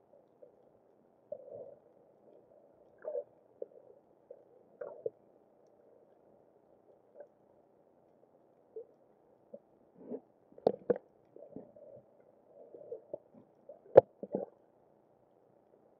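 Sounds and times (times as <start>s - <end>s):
faint underwater gurgling: 0.0s - 14.7s.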